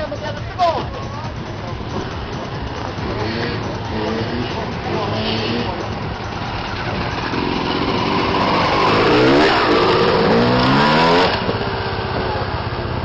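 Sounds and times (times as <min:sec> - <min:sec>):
hum of other engines: 0:00.0 - 0:13.0
motorcycle engine accelerating: 0:01.2 - 0:13.0.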